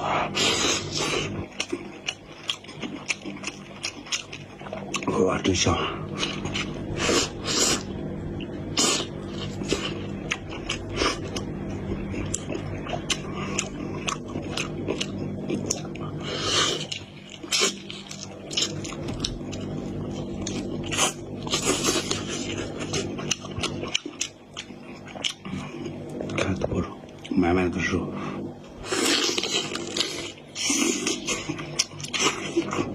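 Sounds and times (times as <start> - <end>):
person chewing dumplings: 0.0 - 5.2, 6.0 - 27.4, 28.7 - 32.9
low background hum: 0.0 - 32.9.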